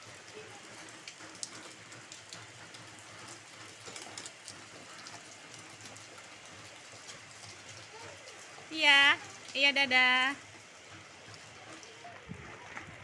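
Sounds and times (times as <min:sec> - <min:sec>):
raindrops ticking close by: 0:00.0 - 0:13.0
steady rain hiss: 0:00.0 - 0:13.0.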